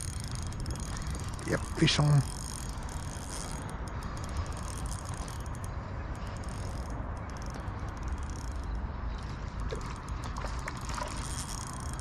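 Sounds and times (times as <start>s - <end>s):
fishing reel clicking: 0.0s - 12.0s.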